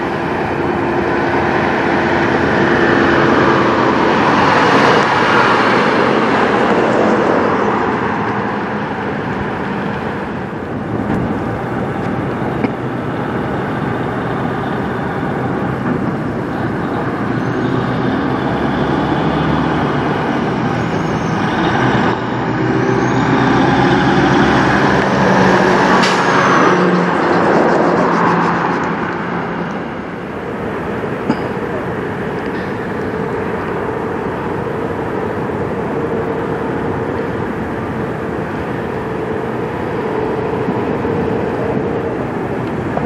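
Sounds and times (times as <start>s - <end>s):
diesel truck engine passing: 0.0s - 43.0s
tyre and road noise: 0.0s - 43.0s.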